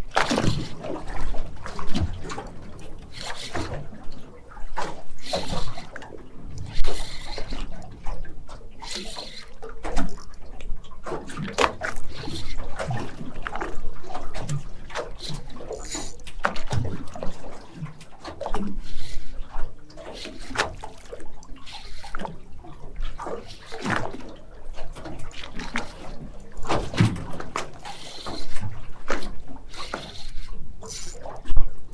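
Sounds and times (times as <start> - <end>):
water sloshing against a boat: 0.0 - 31.9.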